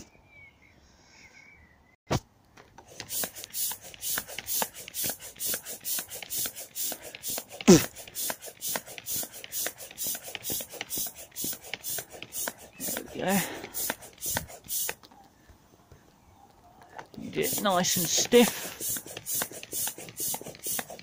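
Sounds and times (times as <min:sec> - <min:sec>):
manual air pump strokes: 0:02.7 - 0:15.6, 0:17.0 - 0:21.0.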